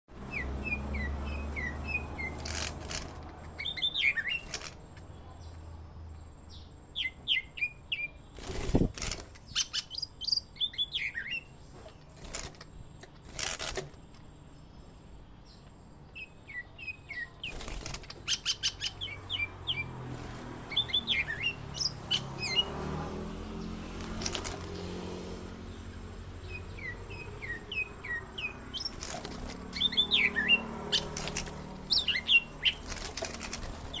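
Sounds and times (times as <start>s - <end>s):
bird chirping: 0.2s - 34.0s.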